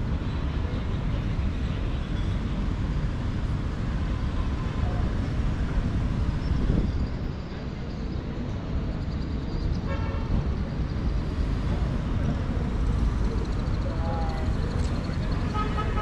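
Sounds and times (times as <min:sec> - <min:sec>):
passing vehicles: 0:00.0 - 0:16.0.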